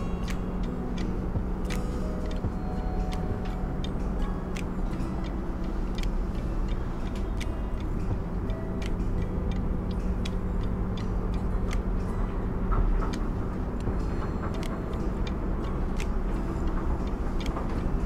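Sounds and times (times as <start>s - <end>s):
low mechanical hum and rumble: 0.0s - 18.0s.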